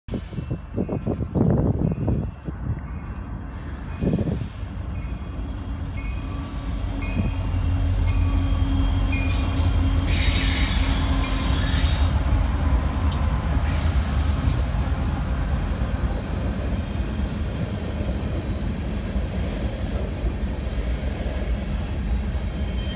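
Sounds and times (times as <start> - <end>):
diesel locomotives passing: 0.1 - 22.9.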